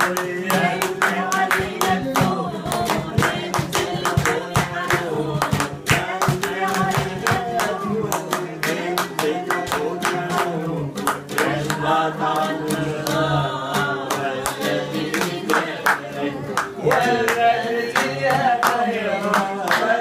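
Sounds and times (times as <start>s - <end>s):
hands clapping in time: 0.0s - 20.0s
man singing: 0.0s - 20.0s
oud playing: 0.0s - 20.0s
voices singing along: 0.0s - 20.0s.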